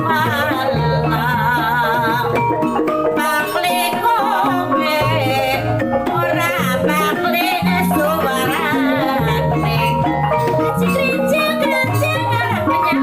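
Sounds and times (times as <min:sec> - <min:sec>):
wavering vibrato melody: 0:00.0 - 0:13.0.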